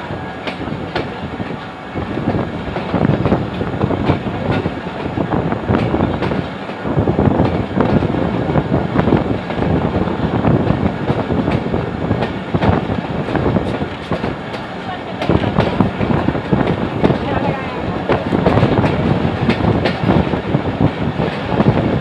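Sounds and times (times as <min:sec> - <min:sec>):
train rumbling: 0:00.0 - 0:22.0
wheels clattering on rails: 0:00.0 - 0:22.0.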